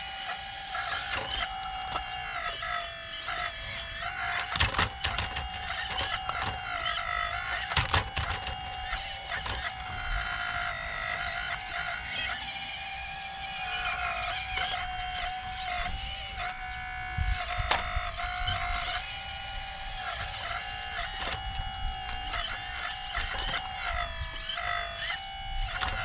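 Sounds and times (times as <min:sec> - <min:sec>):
electric pump motor whining: 0:00.0 - 0:26.0.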